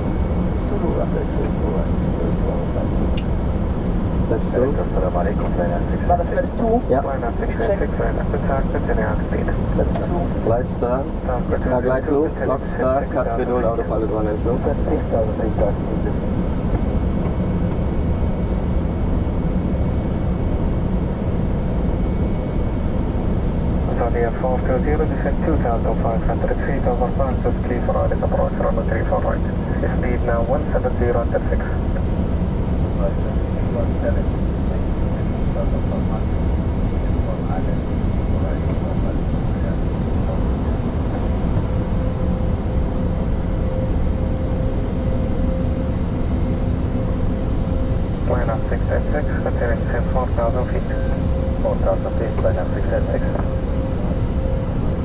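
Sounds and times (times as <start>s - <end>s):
airflow and engine noise in cockpit: 0.0s - 55.0s.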